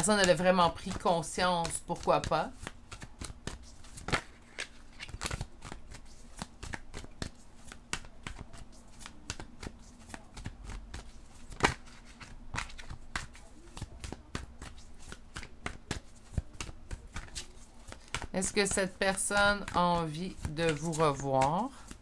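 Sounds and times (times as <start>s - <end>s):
cards being shuffled by hand: 0.0s - 22.0s
cards slapping: 0.0s - 22.0s.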